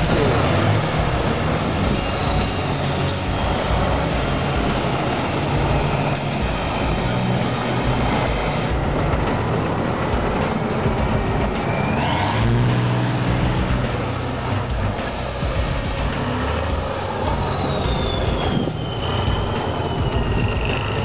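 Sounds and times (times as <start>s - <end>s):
high whistle: 0.0s - 7.4s, 11.6s - 21.0s
truck diesel engine under load: 0.0s - 21.0s.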